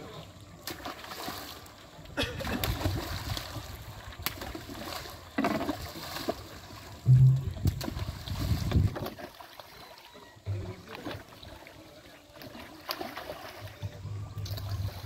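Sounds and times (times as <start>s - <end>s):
wash of moving water: 0.0s - 15.0s
fish thrashing and splashing: 0.6s - 7.0s, 7.6s - 15.0s.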